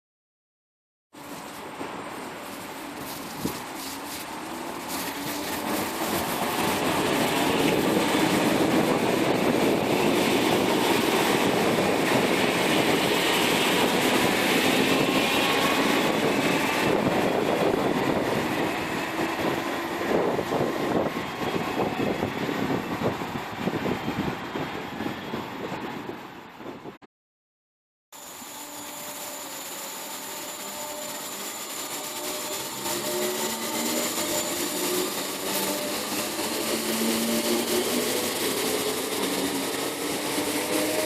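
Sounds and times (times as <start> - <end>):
train passing with whining tones: 1.2 - 27.0, 28.2 - 41.0.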